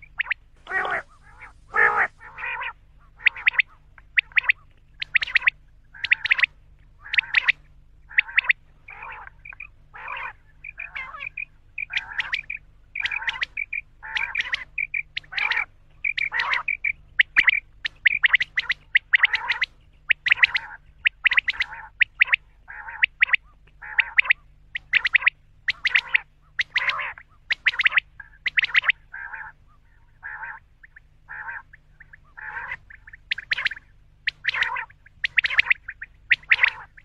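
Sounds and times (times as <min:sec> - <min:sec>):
faint steady hum: 0:00.0 - 0:37.0
quail calling: 0:00.0 - 0:37.0.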